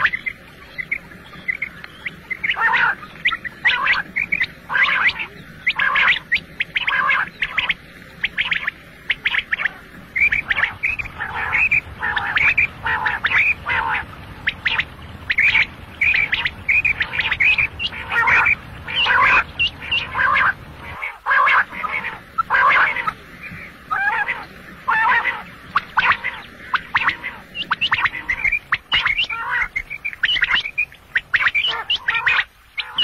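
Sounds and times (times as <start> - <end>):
quail calling: 0.0 - 33.0.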